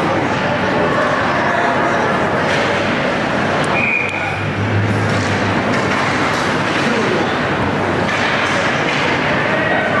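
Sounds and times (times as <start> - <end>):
arena noise: 0.0 - 10.0.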